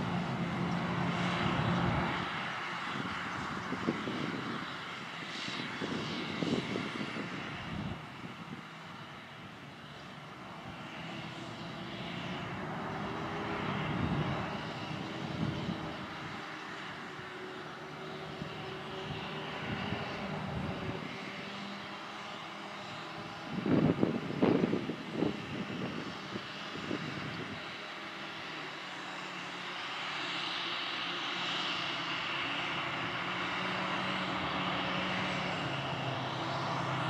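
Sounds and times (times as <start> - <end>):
forage harvester droning: 0.0 - 37.0
tractor engines: 0.0 - 37.0.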